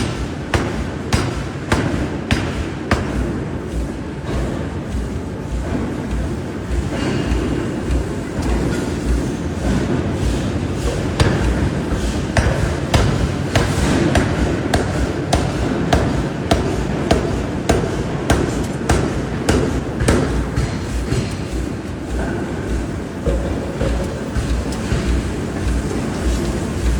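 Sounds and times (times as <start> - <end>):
shop machinery rumble: 0.0 - 26.9.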